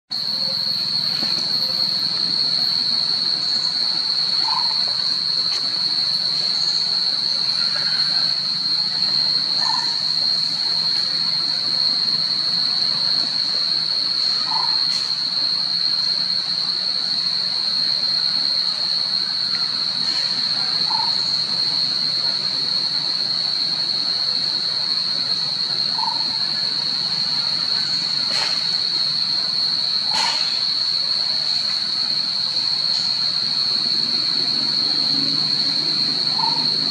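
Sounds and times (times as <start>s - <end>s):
insect chorus drone: 0.1s - 36.9s.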